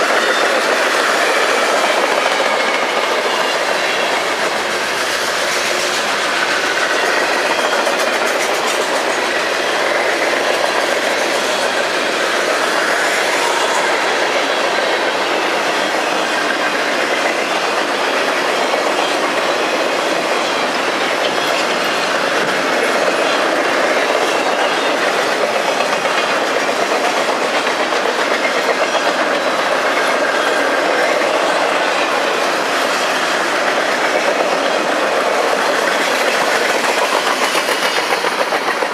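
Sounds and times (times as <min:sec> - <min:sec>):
freight train cars rolling on rails: 0:00.0 - 0:38.9.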